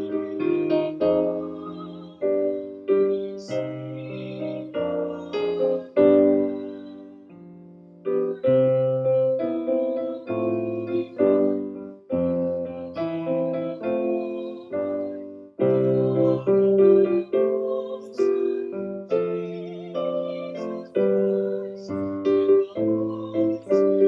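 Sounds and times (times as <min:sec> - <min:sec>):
piano playing slow hymn chords: 0:00.0 - 0:24.0.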